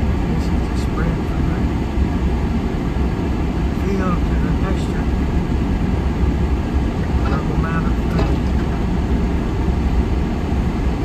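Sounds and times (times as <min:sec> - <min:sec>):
vehicle driving on dirt track: 0:00.0 - 0:11.0.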